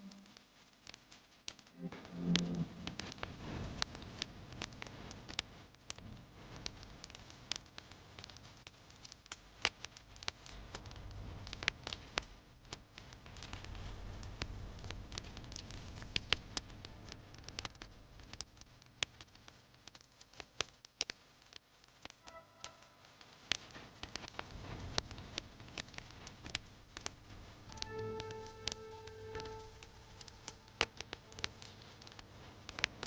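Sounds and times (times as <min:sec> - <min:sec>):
wood fire crackling: 0:00.0 - 0:33.0
low rumble of flames: 0:01.7 - 0:19.9, 0:22.1 - 0:33.0.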